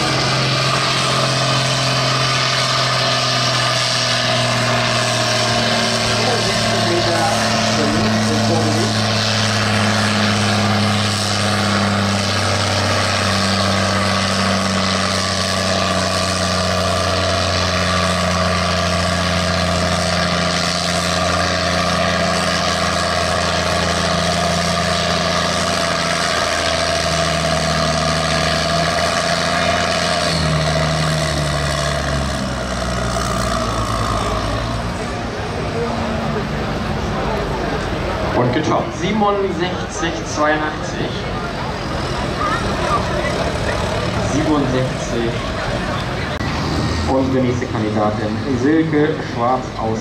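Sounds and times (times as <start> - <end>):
tractor diesel engine at full throttle: 0.0 - 50.0.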